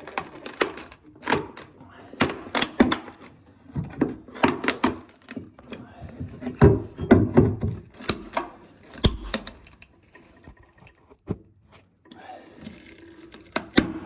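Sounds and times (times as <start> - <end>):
floorboards knocking and clicking: 0.0 - 11.6.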